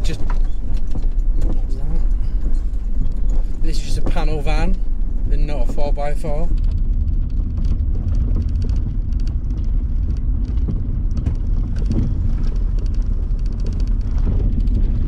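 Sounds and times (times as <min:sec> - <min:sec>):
clicks and rattles: 0:00.0 - 0:15.0
engine and tyre rumble: 0:00.0 - 0:15.0.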